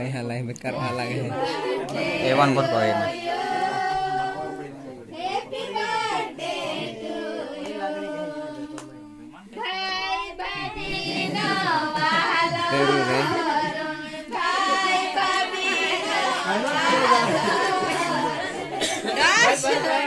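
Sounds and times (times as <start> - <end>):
group of people singing: 0.6 - 20.0.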